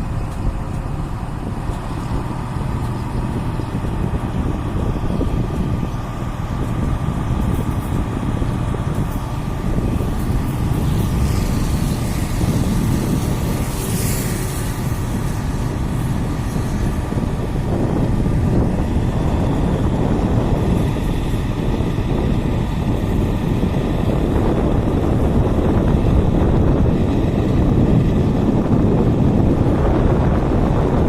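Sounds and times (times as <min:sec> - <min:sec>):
freight train rumble: 0:00.0 - 0:31.0.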